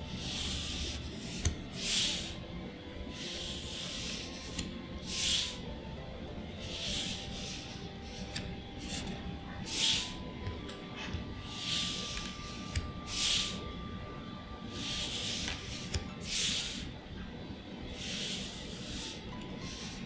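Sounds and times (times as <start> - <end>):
cards sliding papery swish: 0.1 - 2.4, 3.1 - 5.7, 6.6 - 13.9, 14.6 - 17.0, 17.9 - 20.0.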